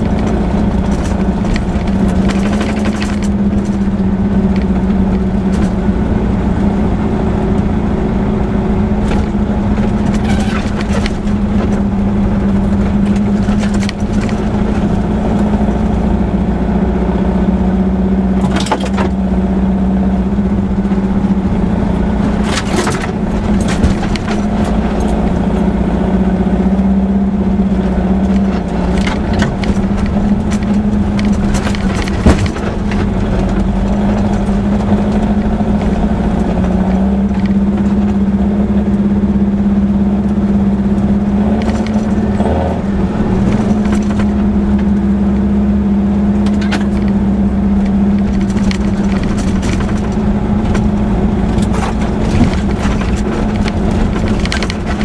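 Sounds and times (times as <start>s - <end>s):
knocks and rattles: 0.0s - 6.0s, 8.9s - 16.1s, 18.3s - 19.3s, 20.4s - 25.6s, 27.7s - 39.1s, 40.3s - 45.0s, 46.4s - 55.0s
car engine running: 0.0s - 55.0s.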